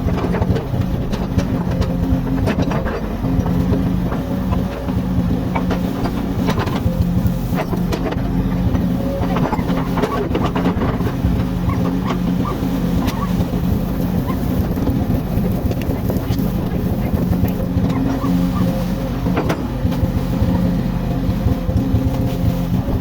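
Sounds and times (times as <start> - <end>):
knocks and clanks: 0.0 - 20.7
excavator diesel engine running: 0.0 - 23.0.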